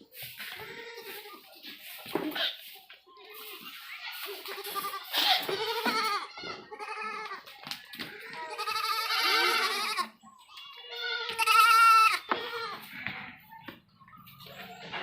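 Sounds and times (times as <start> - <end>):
goat kids bleating: 0.2 - 13.6, 14.2 - 15.0.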